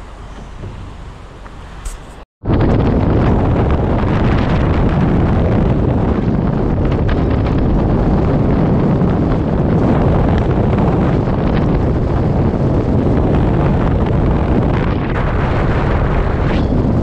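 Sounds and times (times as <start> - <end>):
wind buffeting microphone: 0.4 - 17.0.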